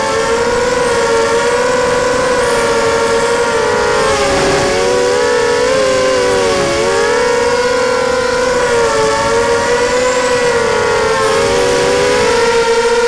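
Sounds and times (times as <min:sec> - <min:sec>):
quadcopter propellers whining: 0:00.0 - 0:13.0.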